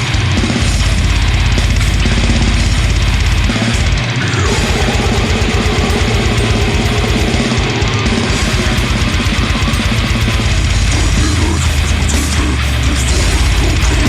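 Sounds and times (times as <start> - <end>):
distorted electric guitars: 0.0 - 14.0
fast drumming: 0.0 - 14.0.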